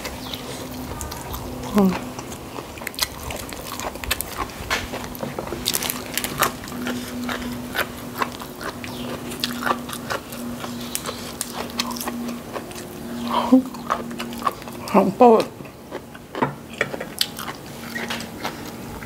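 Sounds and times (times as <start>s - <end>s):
chewing: 0.0s - 19.0s
steady low hum: 0.0s - 19.0s.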